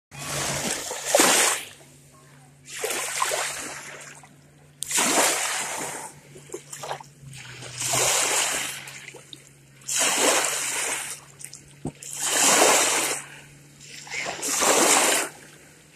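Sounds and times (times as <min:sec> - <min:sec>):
waves splashing on shore: 0:00.2 - 0:01.8, 0:02.6 - 0:04.2, 0:04.8 - 0:15.7.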